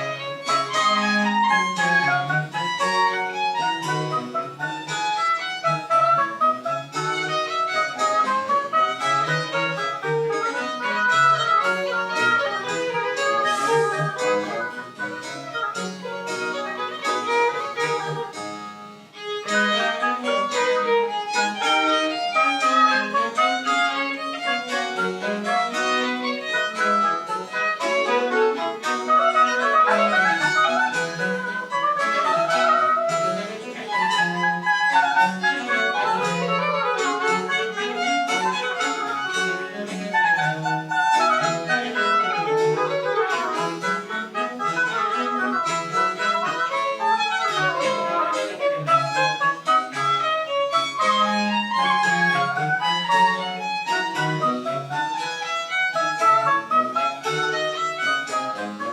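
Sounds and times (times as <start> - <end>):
baroque chamber ensemble: 0.0 - 58.9
violin melody: 0.0 - 58.9.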